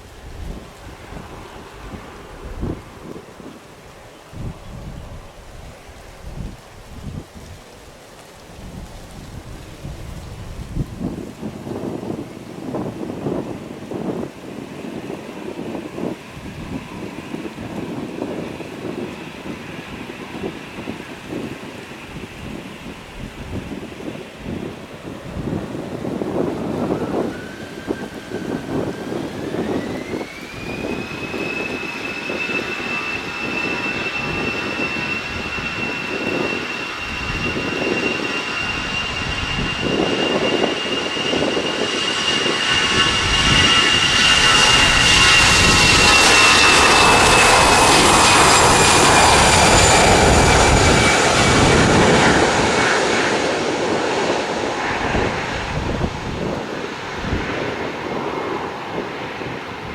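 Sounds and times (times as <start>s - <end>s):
wind rumble on microphone: 0.0s - 59.9s
jet engines spooling up: 8.2s - 59.9s.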